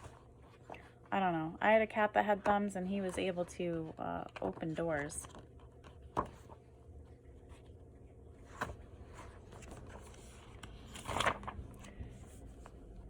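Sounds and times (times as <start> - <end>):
book pages being handled: 0.0 - 1.3, 2.2 - 13.0
faint low hum: 0.0 - 13.0.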